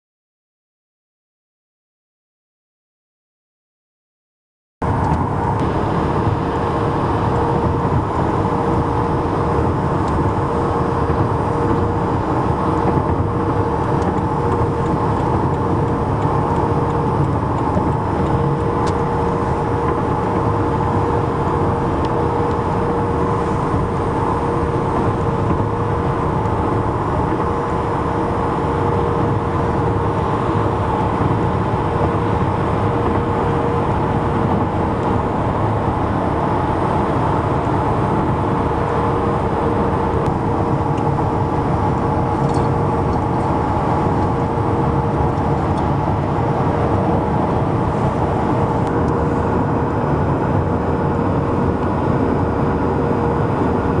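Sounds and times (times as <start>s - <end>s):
highway traffic noise: 4.8s - 54.0s.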